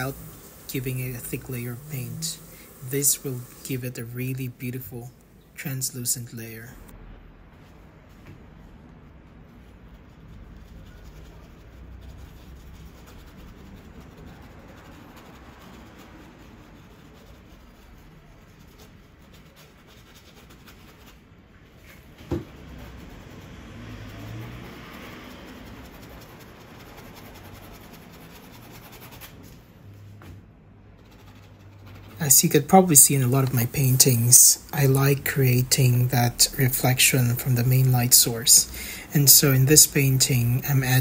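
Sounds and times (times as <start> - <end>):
paintbrush scratching on canvas: 0.0 - 5.1, 9.3 - 29.7, 30.8 - 41.0.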